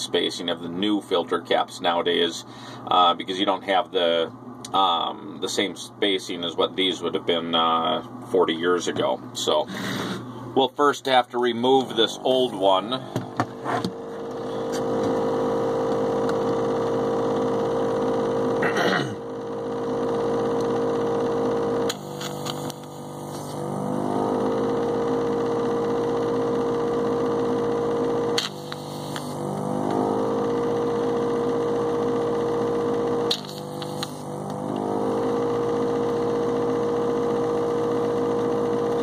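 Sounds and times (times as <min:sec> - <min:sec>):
desoldering pump motor humming: 0:00.0 - 0:39.0.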